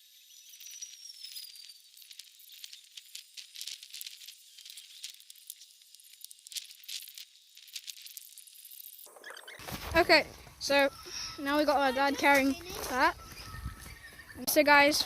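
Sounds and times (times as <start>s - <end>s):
dry leaves and twigs rustling: 0.4s - 15.0s.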